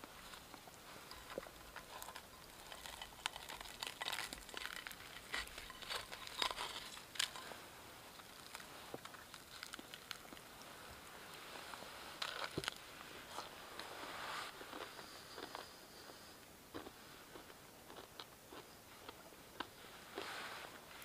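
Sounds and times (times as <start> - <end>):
flatbread crackling and crunching: 0.0 - 21.0.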